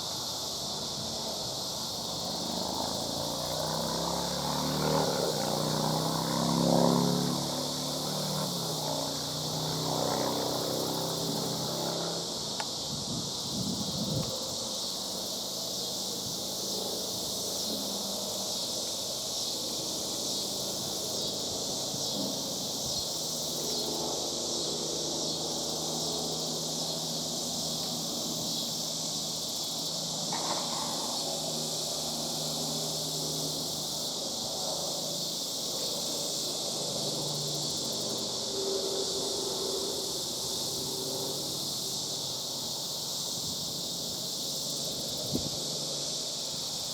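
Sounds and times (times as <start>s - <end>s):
cicadas droning: 0.0s - 46.9s.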